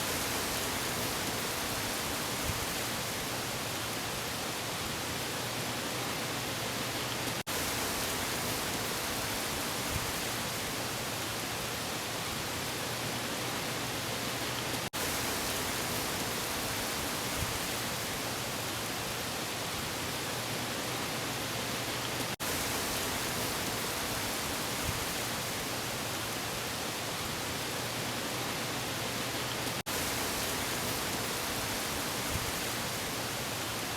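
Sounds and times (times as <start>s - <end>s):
wind: 0.0s - 33.9s.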